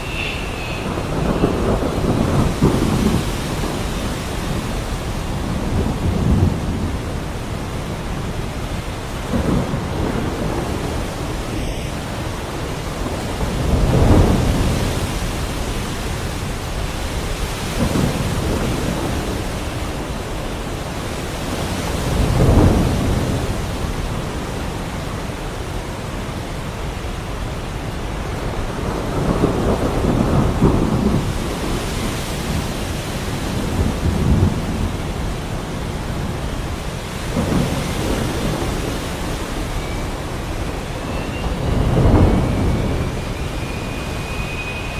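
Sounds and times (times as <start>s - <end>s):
heavy rain falling: 0.0s - 44.9s
thunder rumbling: 0.0s - 44.9s.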